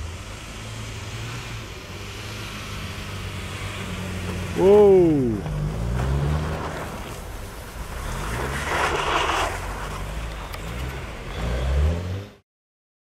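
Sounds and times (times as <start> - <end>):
car engine revving: 0.0 - 12.4
tyres churning snow: 0.0 - 12.4.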